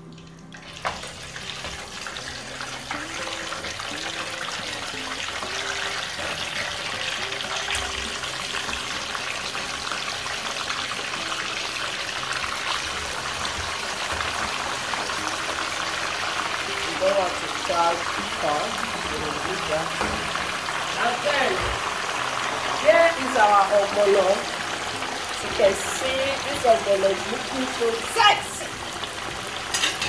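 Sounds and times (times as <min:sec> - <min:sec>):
chicken frying in hot oil: 0:00.0 - 0:30.0.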